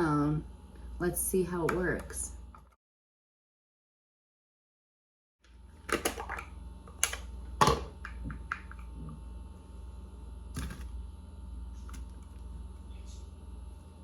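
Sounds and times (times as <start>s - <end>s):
faint steady hum: 0.0s - 2.7s, 5.5s - 14.0s.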